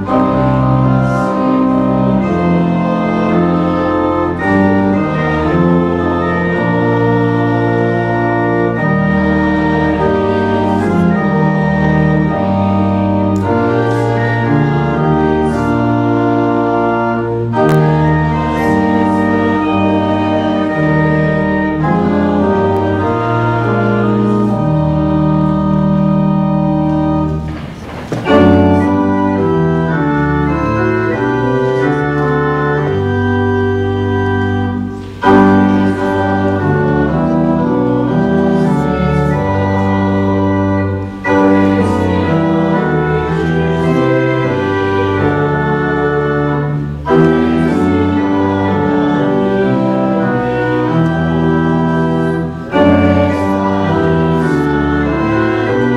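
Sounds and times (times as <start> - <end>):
church organ playing chords: 0.0 - 55.9.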